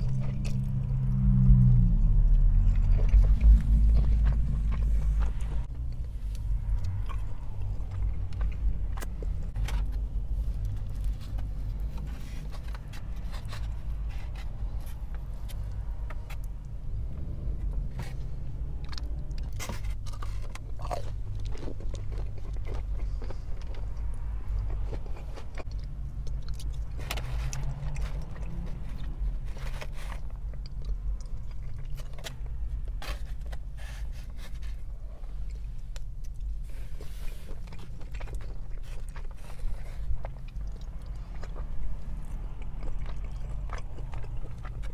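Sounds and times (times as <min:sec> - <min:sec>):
chewing and biting food: 0:00.0 - 0:44.9
low rumble: 0:00.0 - 0:44.9.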